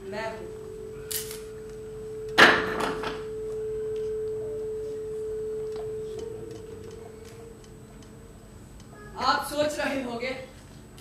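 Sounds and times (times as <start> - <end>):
steady pure tone: 0.0 - 11.0.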